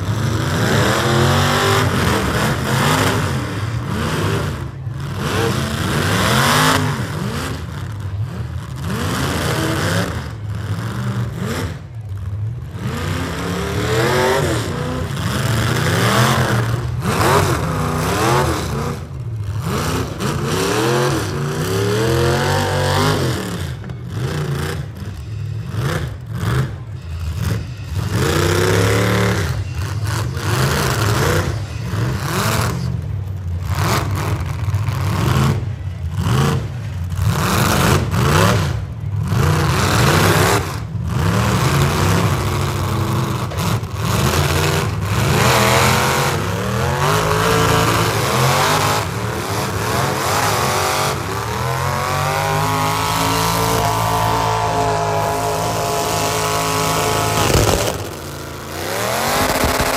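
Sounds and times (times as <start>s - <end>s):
engines revving hard: 0.0s - 59.9s.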